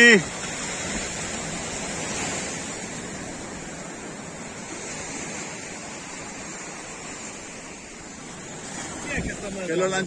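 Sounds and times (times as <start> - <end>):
sea waves washing onto beach: 0.0 - 10.0.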